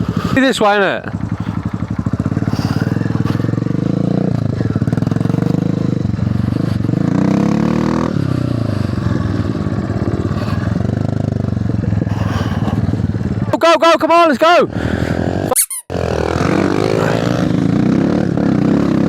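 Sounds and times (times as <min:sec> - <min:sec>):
mini bike engine revving: 0:01.1 - 0:13.5, 0:14.7 - 0:19.0.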